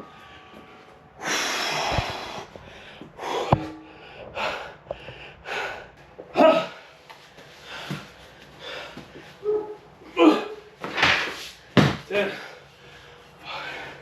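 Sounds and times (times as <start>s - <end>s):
man breathing hard: 0.0s - 9.4s, 11.1s - 14.0s.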